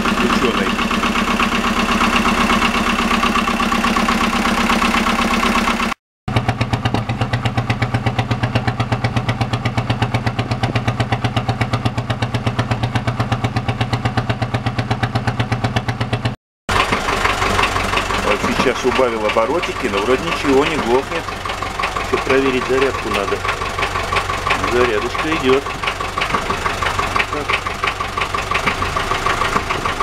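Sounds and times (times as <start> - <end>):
diesel engine idling: 0.0 - 30.0
exhaust puffing: 0.0 - 30.0.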